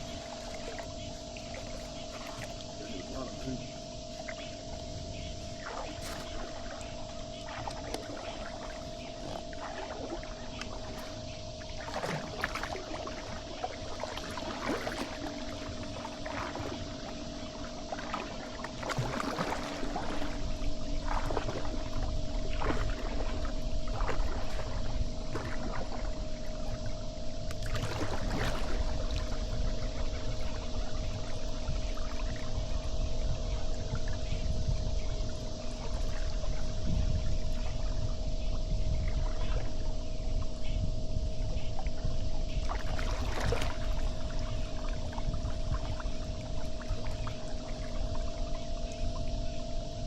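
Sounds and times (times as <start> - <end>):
paddle splashing water: 0.0 - 49.6
faint steady hum: 0.0 - 50.0
wind on microphone: 0.0 - 50.0.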